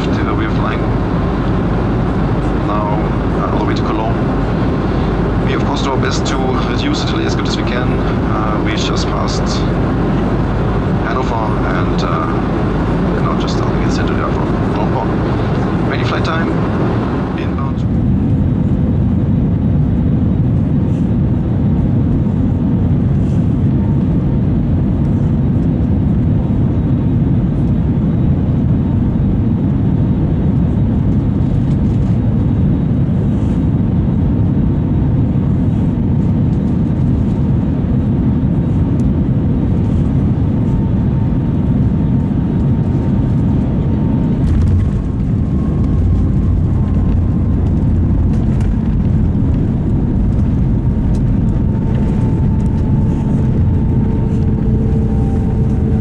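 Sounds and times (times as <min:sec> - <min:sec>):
low rumble of engines and airflow: 0:00.0 - 0:56.0.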